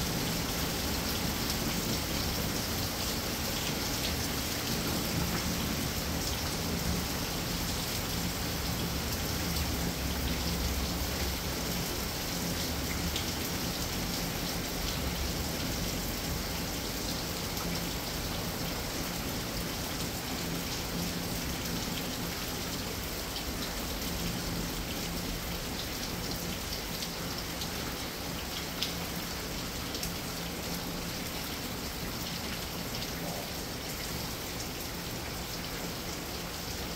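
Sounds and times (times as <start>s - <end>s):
rain pattering on a surface: 0.0s - 36.9s.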